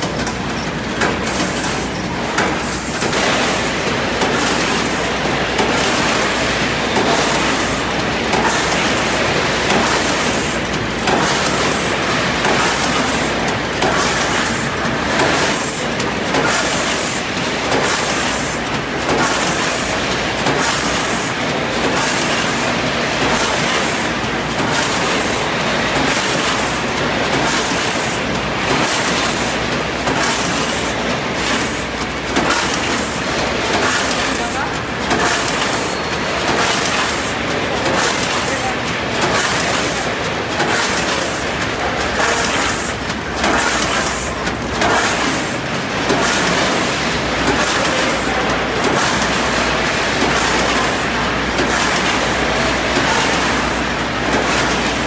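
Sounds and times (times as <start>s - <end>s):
packaging machine running: 0.0s - 55.0s.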